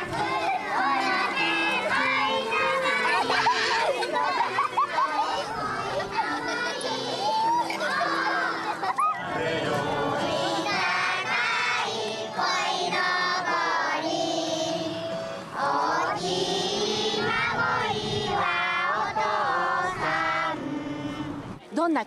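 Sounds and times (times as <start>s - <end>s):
children singing together: 0.0s - 21.5s.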